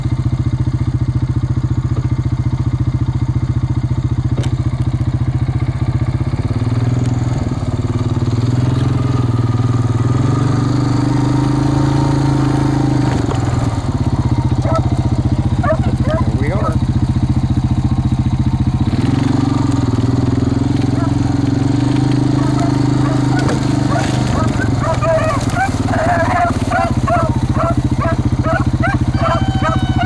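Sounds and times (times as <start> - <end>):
engine chugging: 0.0 - 30.0.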